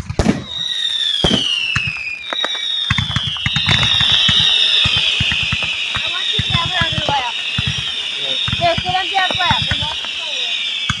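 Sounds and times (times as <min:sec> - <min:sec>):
fireworks bangs: 0:00.0 - 0:11.0
fireworks crackling: 0:00.0 - 0:11.0
fireworks whistles falling in pitch: 0:00.0 - 0:11.0.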